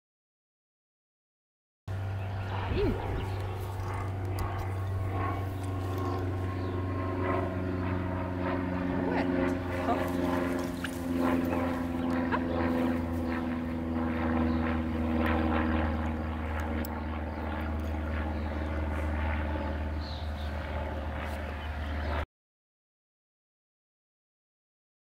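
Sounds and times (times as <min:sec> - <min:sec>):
engine drone: 0:01.9 - 0:22.2.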